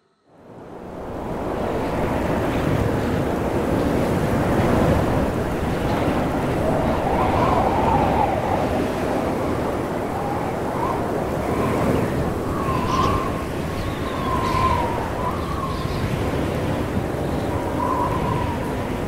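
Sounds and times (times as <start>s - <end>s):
wavering wind howl: 0.0s - 19.0s
storm wind rushing: 0.5s - 19.0s.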